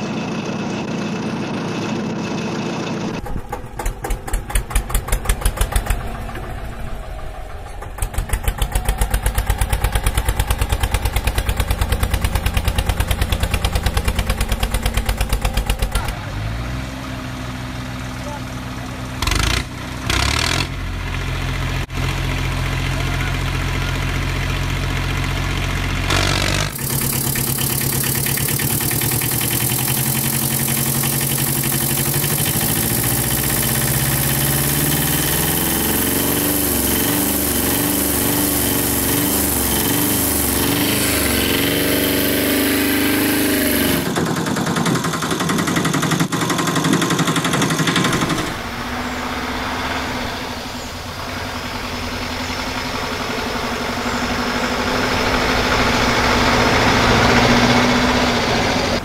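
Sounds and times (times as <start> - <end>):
engine idling: 0.0 - 59.0
engine with strong hiss: 0.0 - 59.0.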